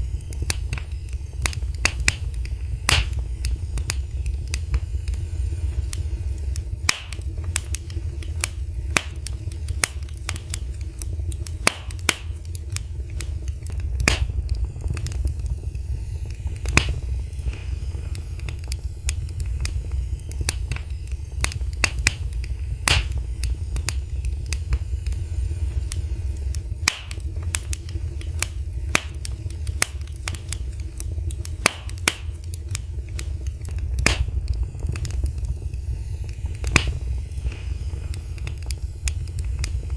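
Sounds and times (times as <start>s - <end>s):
low rumble: 0.0s - 39.9s
wood fire crackling: 0.0s - 39.9s.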